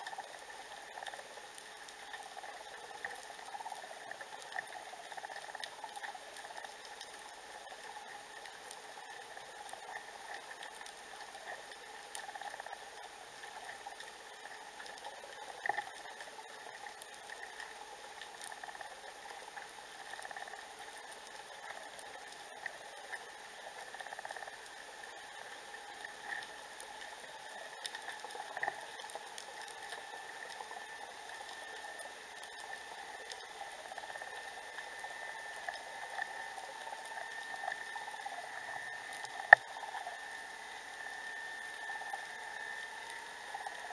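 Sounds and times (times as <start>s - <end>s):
underwater fizzing crackle: 0.0s - 43.9s.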